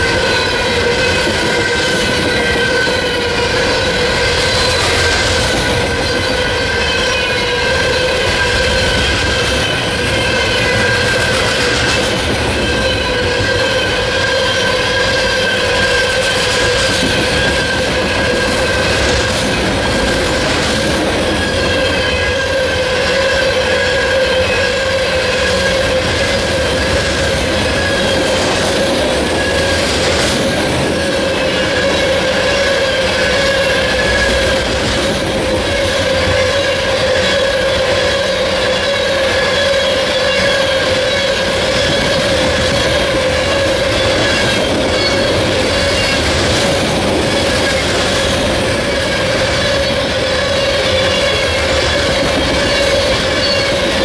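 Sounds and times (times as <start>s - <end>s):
train wheels clattering on rail: 0.0s - 54.0s
high-pitched wheel squeal: 0.1s - 54.0s.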